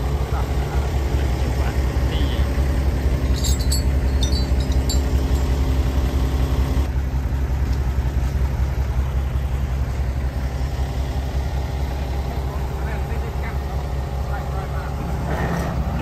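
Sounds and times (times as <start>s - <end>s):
diesel engine throbbing: 0.0s - 16.0s.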